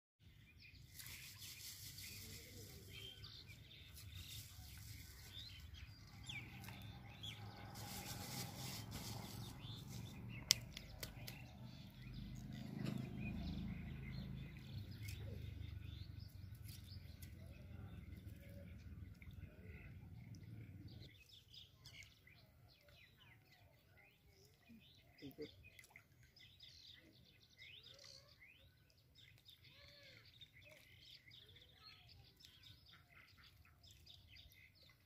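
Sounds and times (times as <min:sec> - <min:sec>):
outdoor background noise: 0:00.2 - 0:35.0
small birds chirping: 0:00.2 - 0:35.0.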